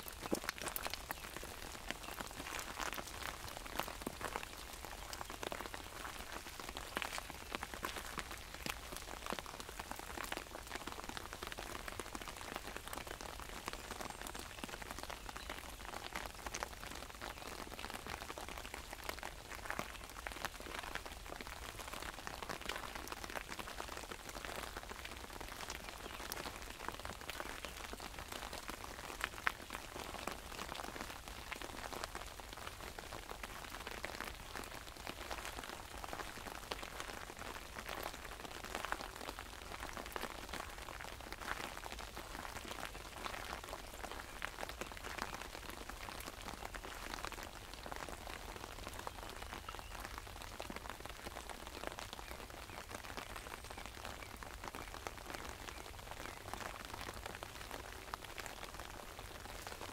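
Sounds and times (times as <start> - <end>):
rain pattering on umbrella: 0.0 - 59.9.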